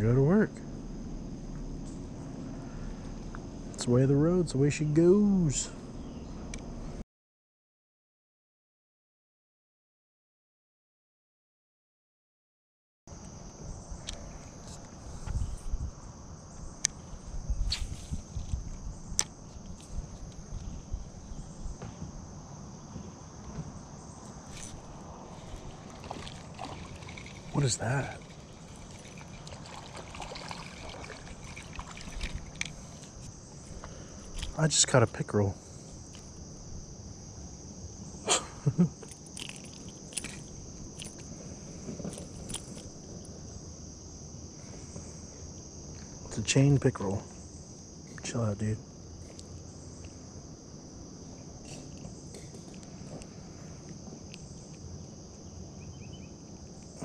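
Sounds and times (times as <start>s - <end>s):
insects chirring: 0.0s - 7.0s, 13.1s - 57.0s.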